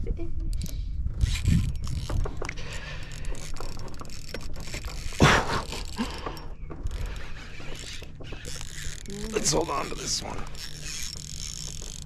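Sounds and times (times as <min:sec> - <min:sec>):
fishing reel cranking: 0:00.5 - 0:12.0.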